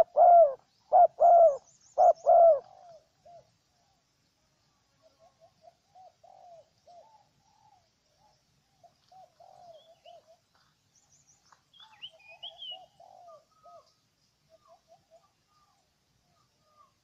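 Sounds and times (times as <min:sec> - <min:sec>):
dove cooing: 0:00.0 - 0:03.5, 0:05.0 - 0:10.4, 0:12.1 - 0:17.0
small birds chirping: 0:00.0 - 0:17.0.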